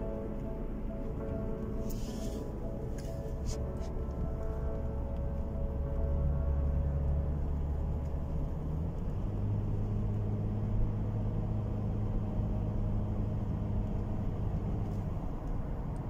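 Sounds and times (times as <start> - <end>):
car engine hum: 0.0 - 16.0
tyre road noise: 0.0 - 16.0.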